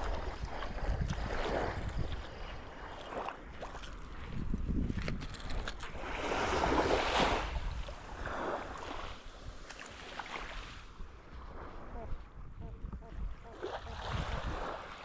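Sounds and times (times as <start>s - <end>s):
sea water washing in swells: 0.0s - 4.6s, 5.8s - 12.4s, 13.4s - 15.0s
wind rumble on microphone: 0.0s - 9.7s, 10.5s - 15.0s.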